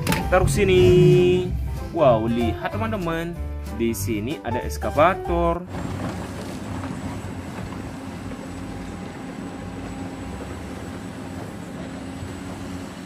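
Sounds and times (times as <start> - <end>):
excavator diesel engine running: 0.0 - 3.2, 5.7 - 13.0.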